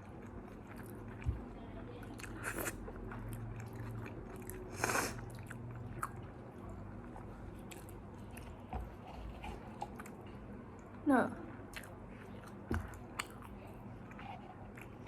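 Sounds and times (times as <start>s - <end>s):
chewing and biting food: 0.0s - 10.4s, 11.7s - 15.0s.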